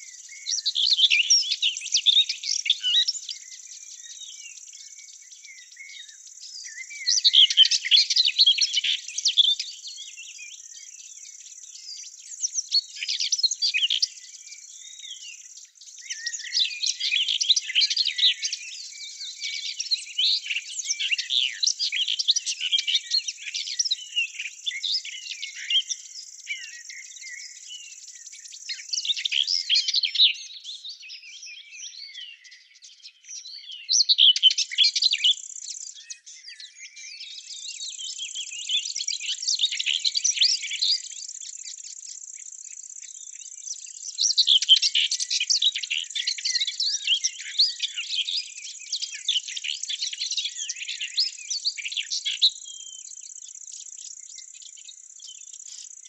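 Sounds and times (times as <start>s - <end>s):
birds twittering: 0.0s - 56.0s.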